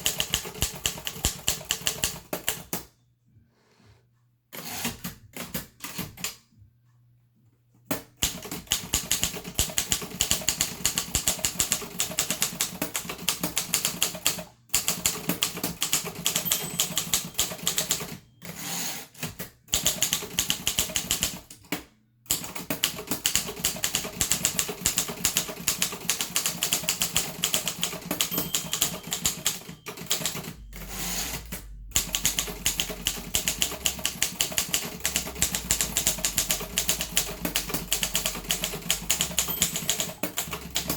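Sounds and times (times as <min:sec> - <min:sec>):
typewriter keystroke clacks: 0:00.0 - 0:02.8, 0:07.9 - 0:18.2, 0:19.2 - 0:40.9.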